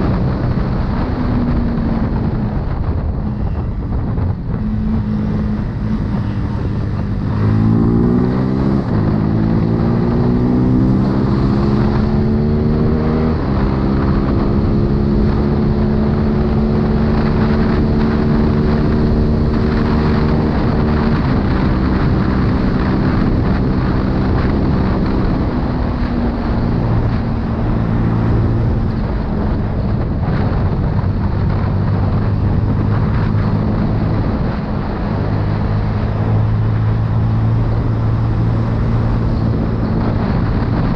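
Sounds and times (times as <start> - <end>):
motorcycle engine revving: 0.0 - 40.9
wind noise on microphone: 0.0 - 40.9.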